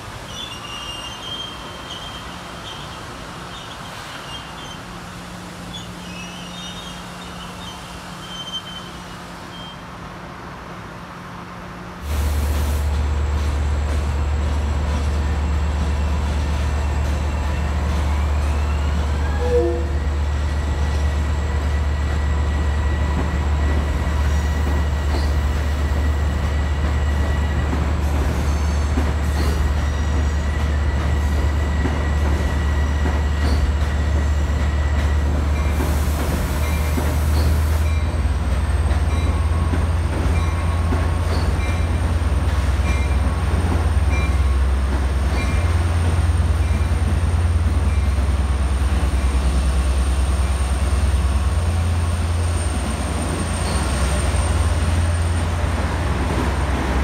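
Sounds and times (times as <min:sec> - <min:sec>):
electric train rumbling: 0:00.0 - 0:57.0
train whine: 0:00.0 - 0:57.0.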